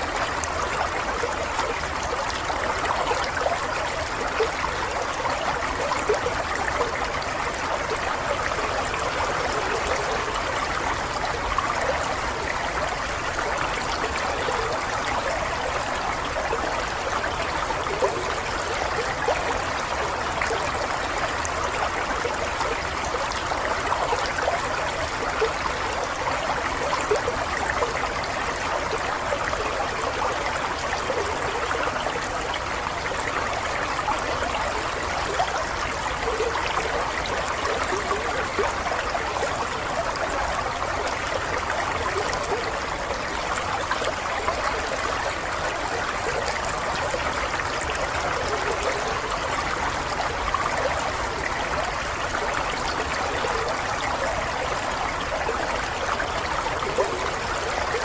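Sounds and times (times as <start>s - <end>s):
running water babbling: 0.0s - 58.0s.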